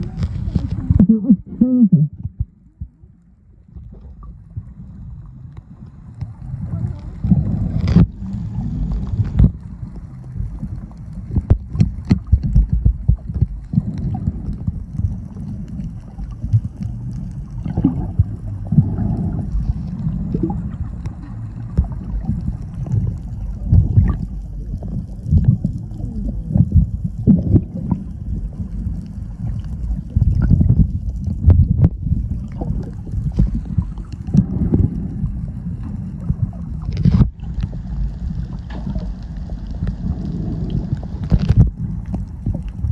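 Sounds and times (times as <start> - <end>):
muffled underwater rumble: 0.0 - 42.9.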